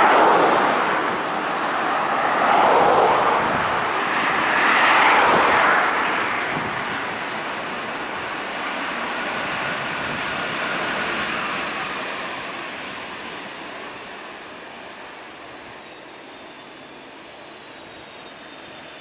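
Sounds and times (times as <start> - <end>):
high jet whine: 0.0 - 19.0
jet engines roaring: 0.0 - 19.0.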